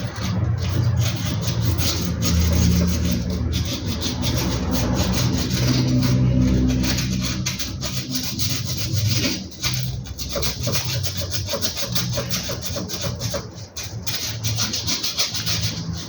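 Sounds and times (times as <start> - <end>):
sandpaper rubbing on metal: 0.0 - 16.0.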